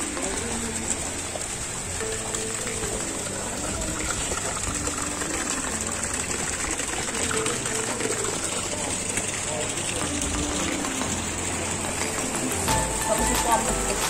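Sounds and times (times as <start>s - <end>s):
fountain water splashing into basins: 0.0s - 14.0s.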